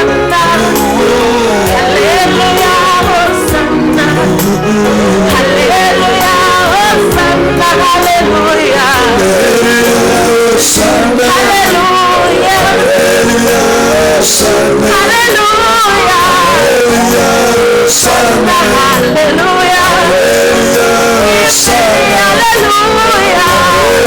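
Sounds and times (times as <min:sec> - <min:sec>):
voices singing with instruments: 0:00.0 - 0:24.0.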